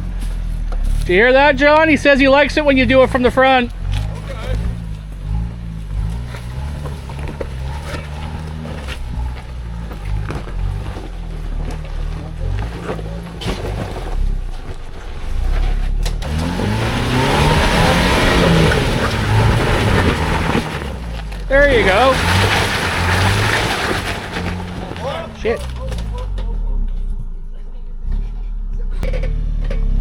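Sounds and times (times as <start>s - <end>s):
vehicle engine revving: 0.0s - 30.0s.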